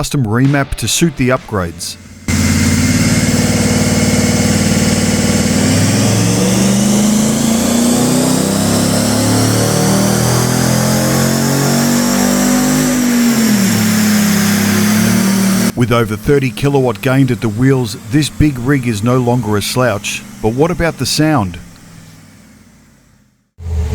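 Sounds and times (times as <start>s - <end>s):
vehicle engine revving on dyno: 1.9s - 23.9s.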